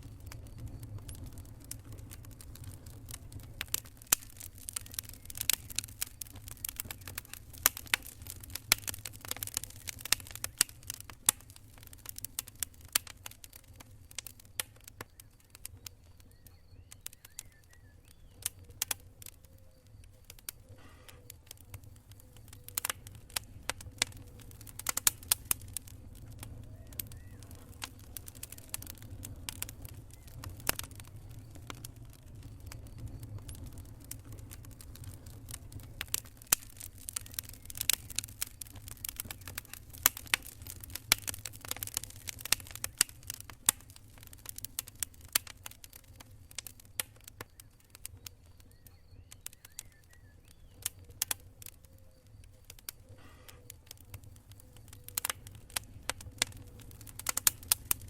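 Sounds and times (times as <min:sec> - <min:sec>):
burning wood popping: 0:00.0 - 0:58.0
low fire rumble: 0:00.0 - 0:58.0.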